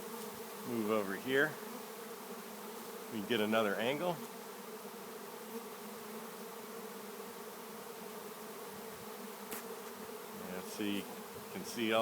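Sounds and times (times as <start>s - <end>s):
bee swarm buzzing: 0.0s - 12.0s.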